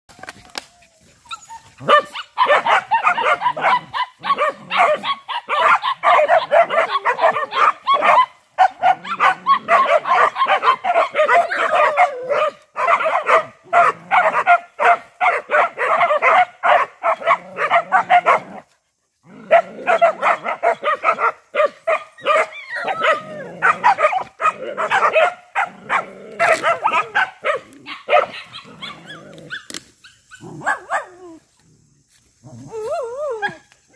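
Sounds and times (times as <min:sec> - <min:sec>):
small dogs barking: 0:01.2 - 0:18.7, 0:19.3 - 0:31.6.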